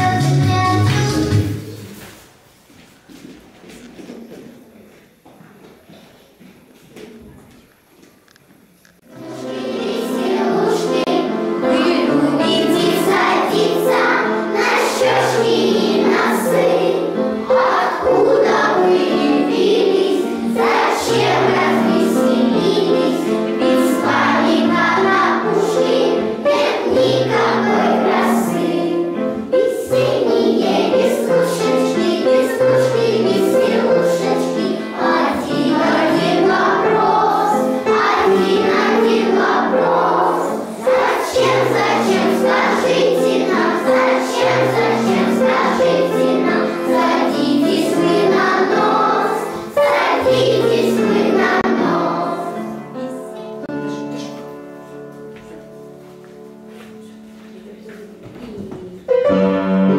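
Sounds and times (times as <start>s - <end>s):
children's choir singing: 0.0s - 2.4s, 9.0s - 59.9s
instrumental accompaniment: 9.0s - 58.2s.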